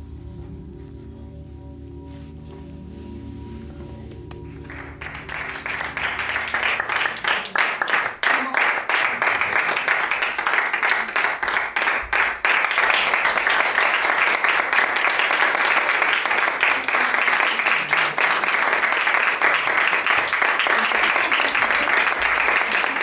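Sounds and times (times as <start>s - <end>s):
audience applauding: 4.4s - 23.0s.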